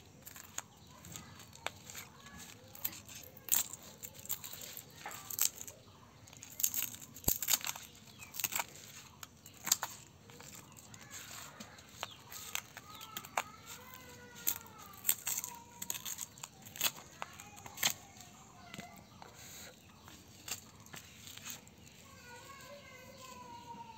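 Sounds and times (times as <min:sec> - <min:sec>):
glass screen protector crackling: 0:00.0 - 0:23.9.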